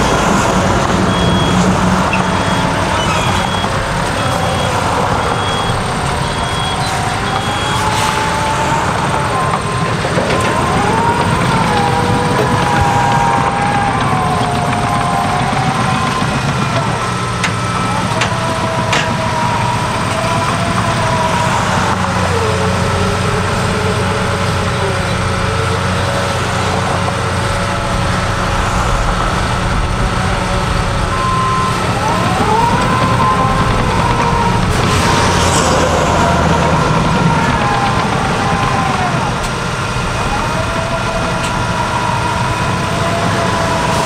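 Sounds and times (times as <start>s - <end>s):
bulldozer diesel engine drone: 0.0s - 44.0s
whine rising and falling in pitch: 0.0s - 44.0s.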